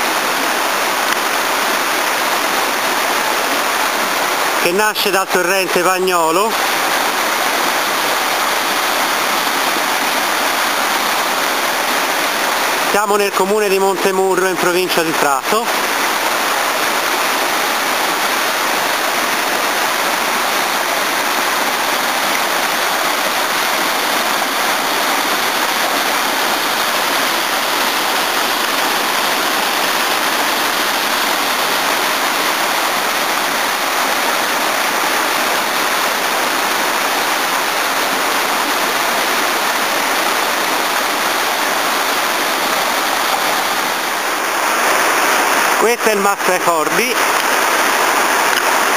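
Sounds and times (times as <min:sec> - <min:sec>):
water rushing over boulders: 0:00.0 - 0:48.9.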